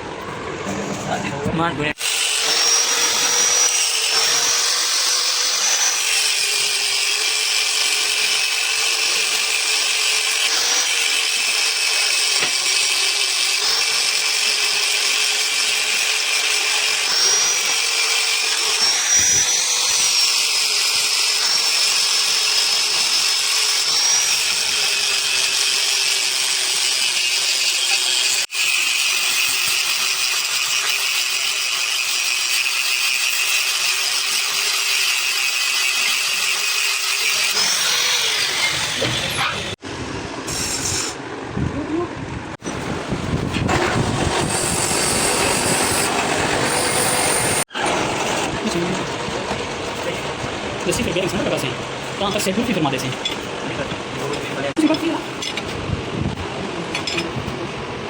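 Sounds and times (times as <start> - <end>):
power tool grinding metal: 1.9 - 39.8, 42.6 - 56.0.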